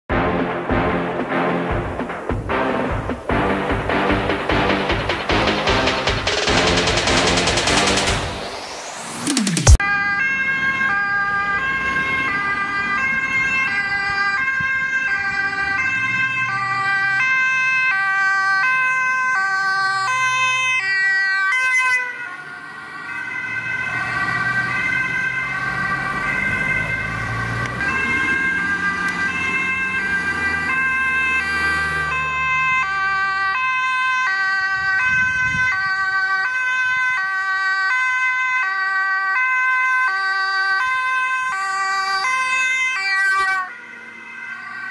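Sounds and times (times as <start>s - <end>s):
engine and road noise: 0.0s - 44.9s
two-tone ambulance sirens: 0.0s - 44.9s.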